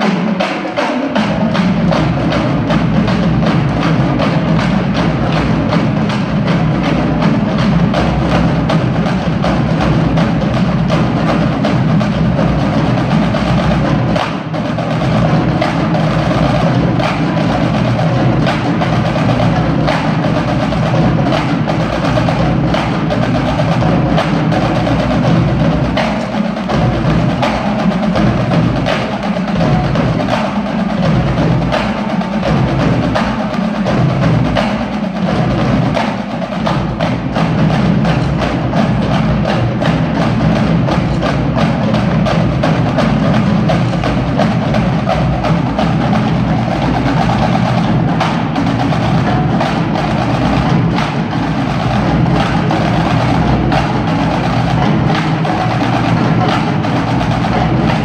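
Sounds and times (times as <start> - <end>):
snare drums: 0.0 - 58.0
tenor drums: 0.0 - 58.0.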